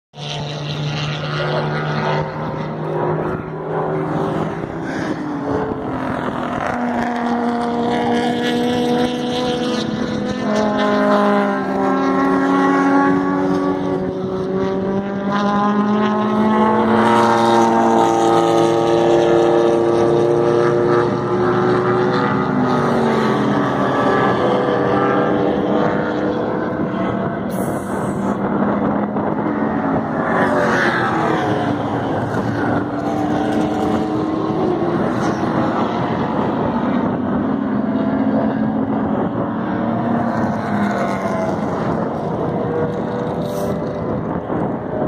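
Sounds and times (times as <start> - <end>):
race car engines accelerating: 0.2 - 45.0.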